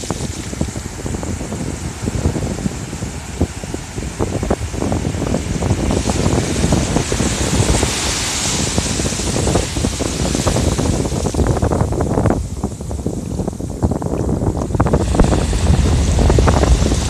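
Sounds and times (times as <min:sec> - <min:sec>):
wave breaking on beach: 0:00.0 - 0:17.0
wind buffeting microphone: 0:00.0 - 0:17.0.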